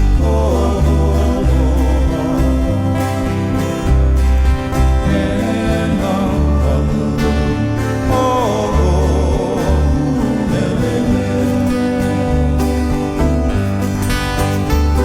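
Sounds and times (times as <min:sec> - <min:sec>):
person singing: 0:00.0 - 0:13.8
plucked guitar: 0:00.0 - 0:15.0
steady bass line: 0:00.0 - 0:15.0.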